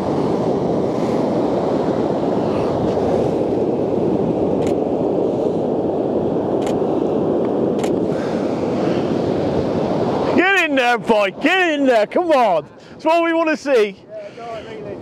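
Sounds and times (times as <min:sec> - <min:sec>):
surf breaking on shingle beach: 0:00.0 - 0:13.2
wind buffeting microphone: 0:00.0 - 0:15.0.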